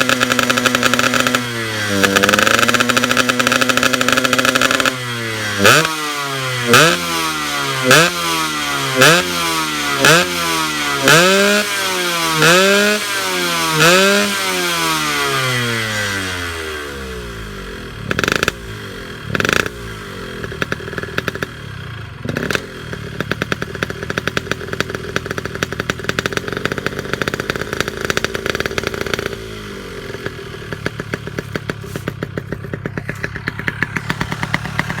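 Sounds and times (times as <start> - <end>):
two-stroke engine idling: 0.0 - 35.0
two-stroke engine revving: 0.0 - 35.0.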